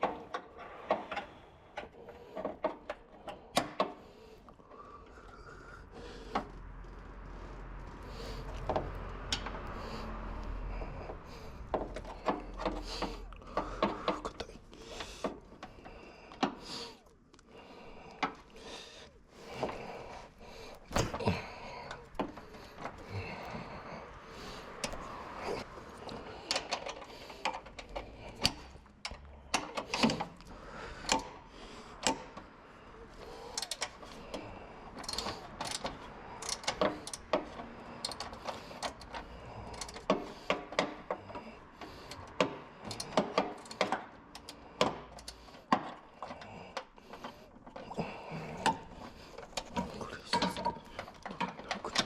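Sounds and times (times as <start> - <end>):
hand tools clicking and knocking: 0.0 - 52.0.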